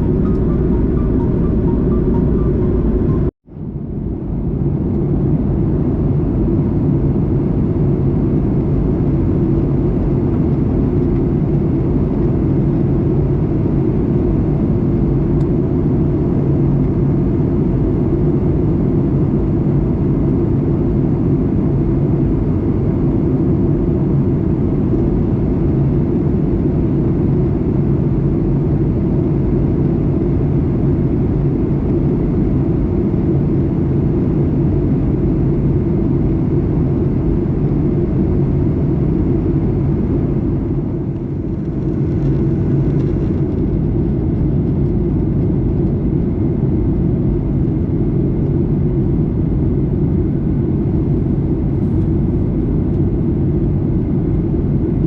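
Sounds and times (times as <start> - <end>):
aircraft cabin engine drone: 0.0 - 55.0.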